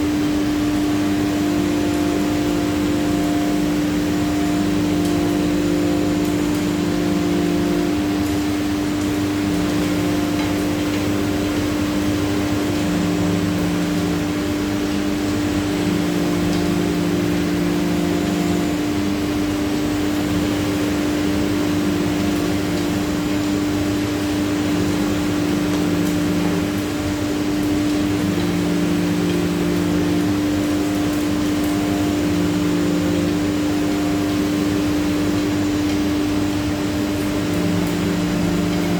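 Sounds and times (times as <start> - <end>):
low machine hum: 0.0 - 38.9.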